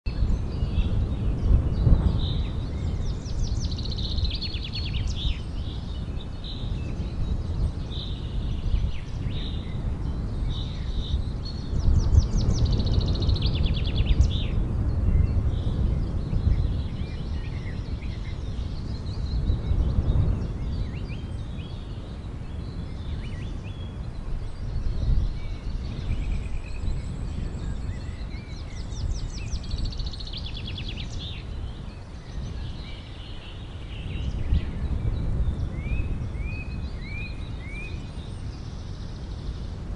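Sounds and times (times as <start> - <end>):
birds chirping and trilling: 0.1 - 39.9.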